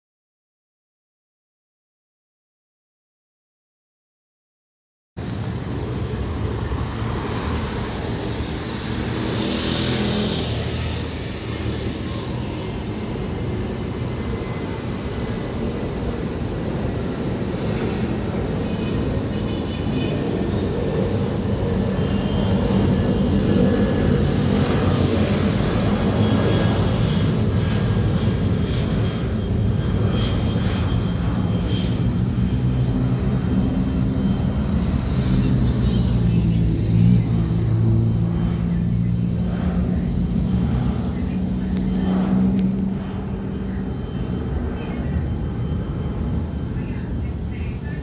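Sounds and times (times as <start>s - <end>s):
jet engines rumbling: 5.2s - 48.0s.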